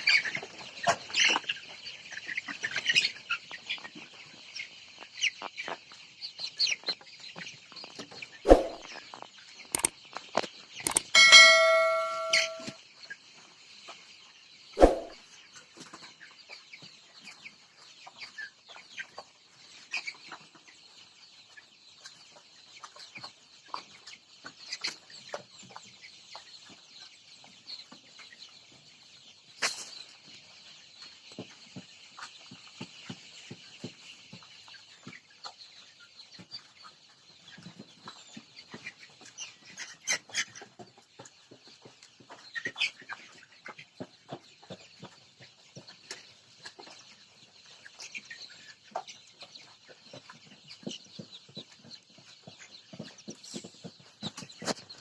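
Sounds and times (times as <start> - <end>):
chickens clucking: 0.0 - 9.9, 14.8 - 55.0.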